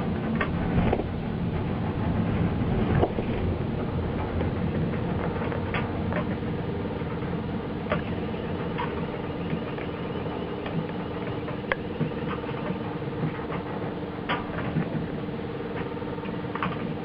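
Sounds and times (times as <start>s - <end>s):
crane machinery humming: 0.0s - 17.0s.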